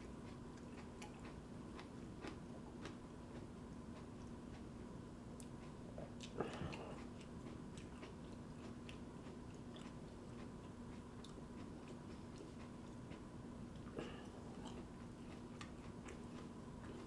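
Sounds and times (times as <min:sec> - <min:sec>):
person chewing: 0:00.0 - 0:17.0
steady low hum: 0:00.0 - 0:17.0.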